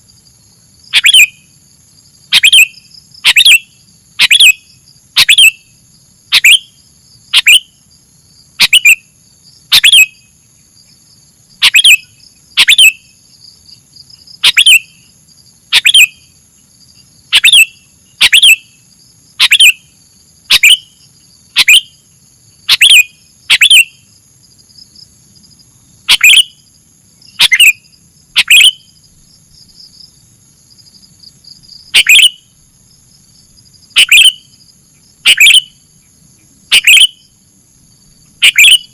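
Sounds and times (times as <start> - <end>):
bird chirping: 0.9 - 1.5, 2.3 - 7.8, 8.6 - 24.2, 25.8 - 30.2, 30.8 - 32.6, 33.8 - 37.4, 38.1 - 38.9.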